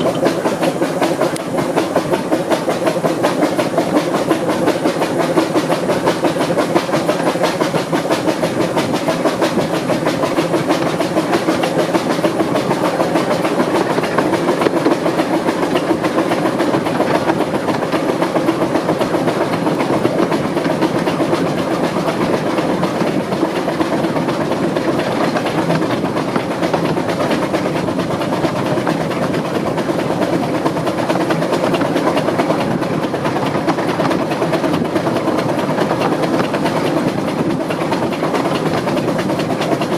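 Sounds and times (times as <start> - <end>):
steam locomotive exhaust beats: 0.0 - 39.9.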